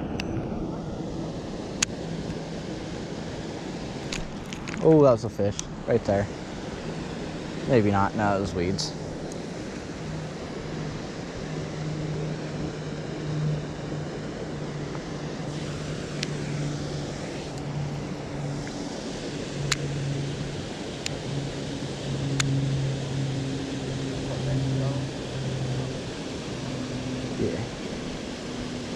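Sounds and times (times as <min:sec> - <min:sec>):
low motor hum: 0:00.0 - 0:28.9.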